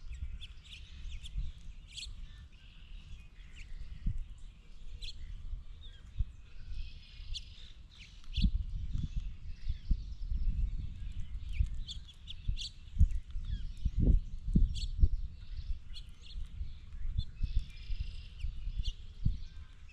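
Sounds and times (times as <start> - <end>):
birds chirping: 0.0 - 19.9.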